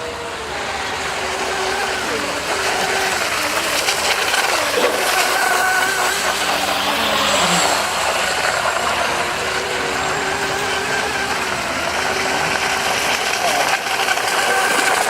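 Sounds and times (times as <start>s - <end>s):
model boat motor running: 0.0s - 15.0s.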